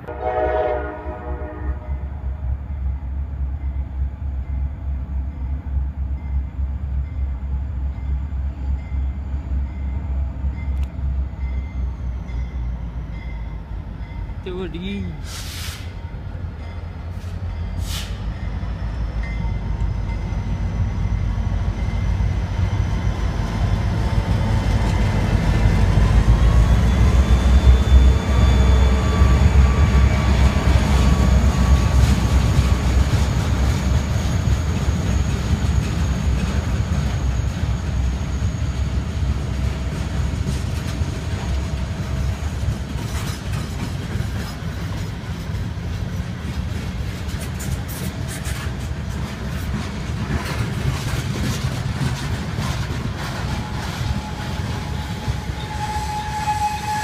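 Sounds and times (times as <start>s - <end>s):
diesel locomotive engine rumble: 0.0s - 57.0s
freight train wheels on rails: 0.0s - 57.0s.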